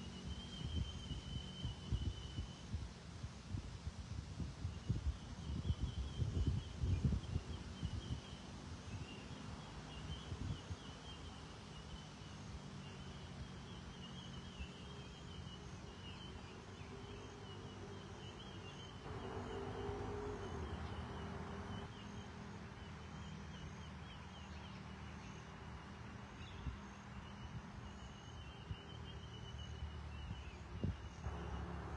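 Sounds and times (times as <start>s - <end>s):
small birds chirping: 4.6s - 31.9s.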